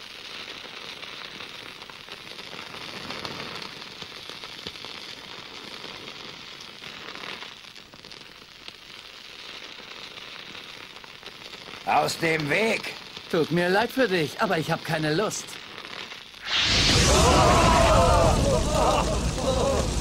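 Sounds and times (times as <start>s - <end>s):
crackling hiss: 0.0s - 20.0s.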